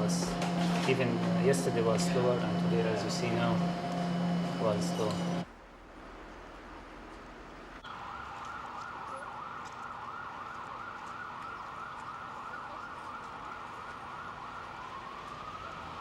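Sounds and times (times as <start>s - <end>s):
emergency vehicle siren: 0.0s - 5.5s, 7.8s - 16.0s.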